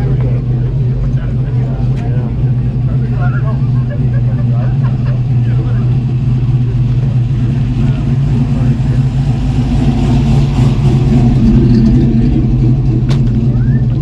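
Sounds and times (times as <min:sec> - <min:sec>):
car driving slowly past: 0:00.0 - 0:14.0
car engines running: 0:00.0 - 0:14.0.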